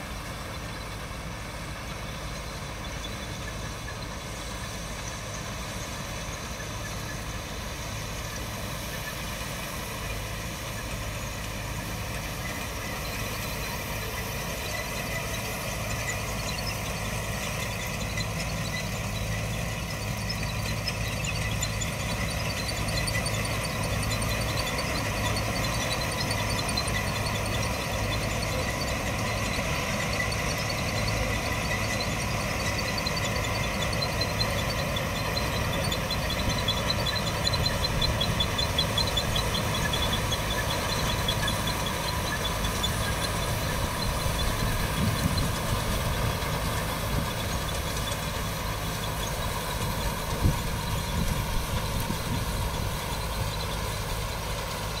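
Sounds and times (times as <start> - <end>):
harvester engine drone: 0.0 - 55.0
mechanical whine: 0.0 - 55.0
fast fine machinery ticking: 2.7 - 55.0.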